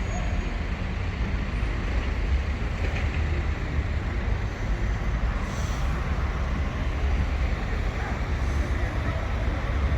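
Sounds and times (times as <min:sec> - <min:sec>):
city traffic rumble: 0:00.0 - 0:09.9.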